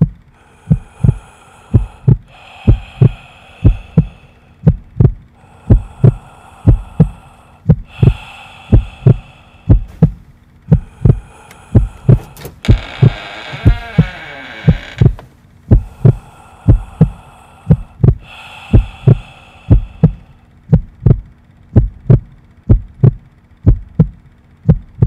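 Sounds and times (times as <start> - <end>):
heartbeat thumps: 0.0 - 25.0.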